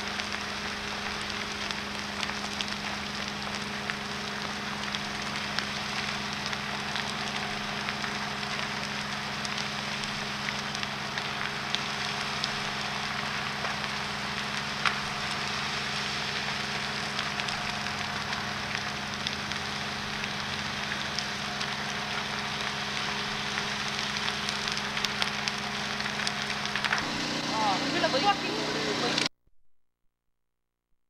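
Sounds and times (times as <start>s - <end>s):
sharp pops of burning wood: 0.0s - 28.4s
flames crackling: 0.0s - 29.3s.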